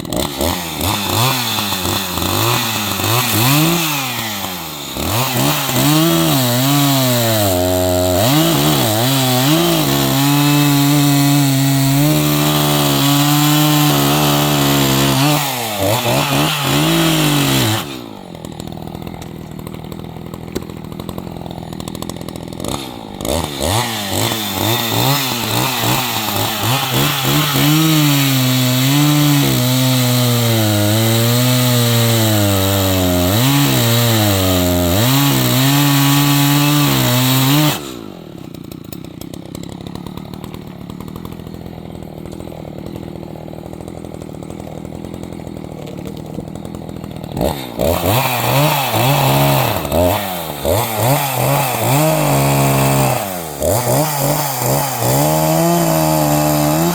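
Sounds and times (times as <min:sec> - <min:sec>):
chainsaw cutting logs: 0:00.0 - 0:56.9.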